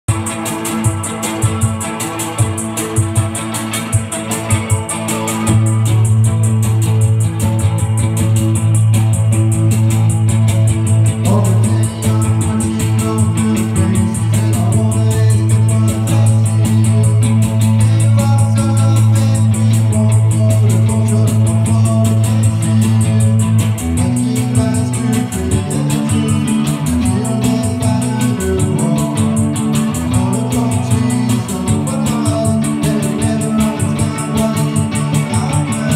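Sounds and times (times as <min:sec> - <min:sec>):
electric guitar: 0:00.0 - 0:35.9
punk band playing live: 0:00.1 - 0:35.9.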